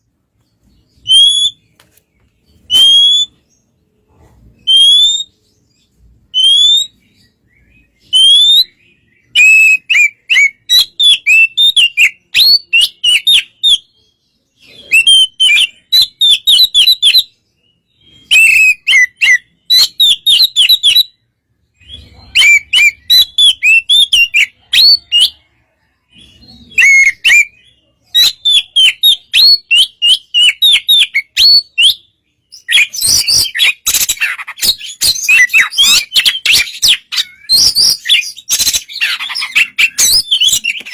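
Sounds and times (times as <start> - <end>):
bird singing whistled notes: 0.4 - 3.8, 4.6 - 40.9.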